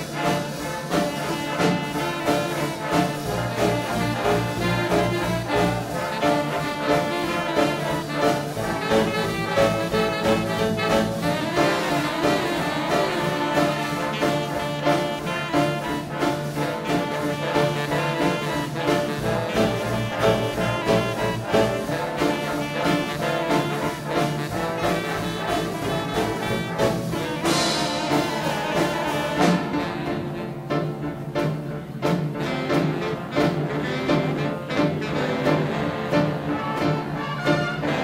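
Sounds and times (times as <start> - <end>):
big band swing jazz: 0.0 - 38.0
trombones and trumpets: 0.0 - 38.0.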